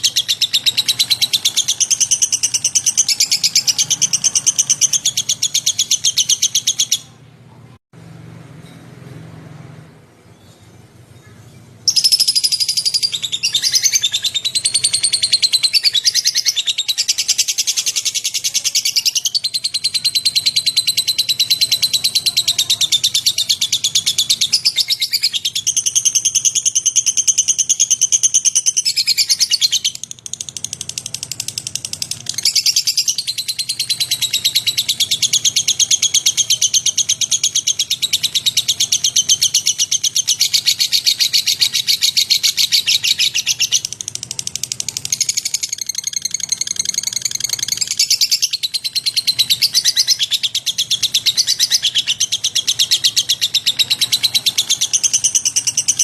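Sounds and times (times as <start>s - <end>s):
bird chattering trill: 0.0s - 7.2s, 11.2s - 56.0s.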